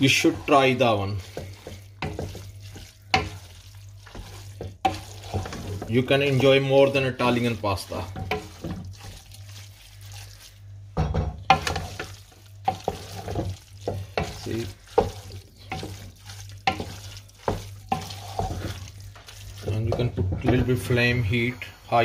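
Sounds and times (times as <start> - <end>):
wooden spoon scraping a steel pot: 0.0 - 10.6, 11.5 - 21.6.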